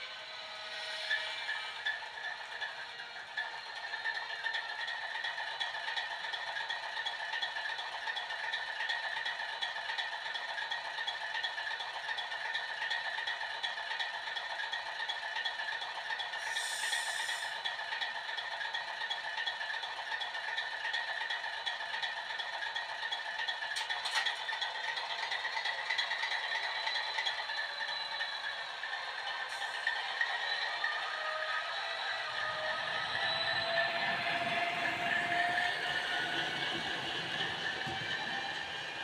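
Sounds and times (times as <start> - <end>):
model locomotive engine idling: 0.0 - 39.0.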